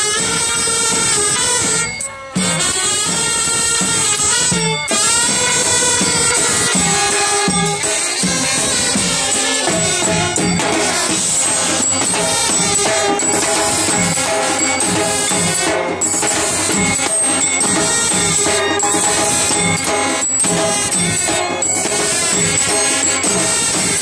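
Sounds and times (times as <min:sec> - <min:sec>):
drums and cymbals beating: 0:00.0 - 0:24.0
trumpets playing melody: 0:00.0 - 0:24.0.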